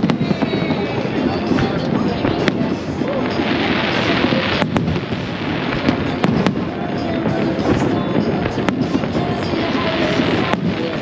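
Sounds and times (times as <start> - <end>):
crackling firework hiss: 0.0 - 11.0
fireworks bursting rumble: 0.0 - 11.0
sharp firework bangs: 0.0 - 11.0.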